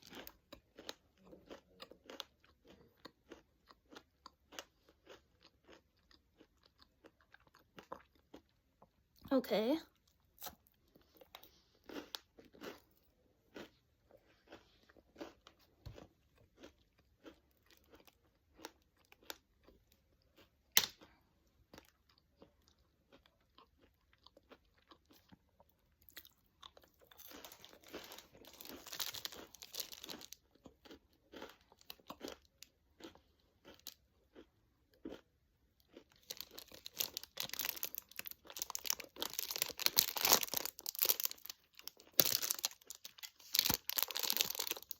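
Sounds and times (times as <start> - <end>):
crunching and chewing pretzel: 0.0 - 44.9.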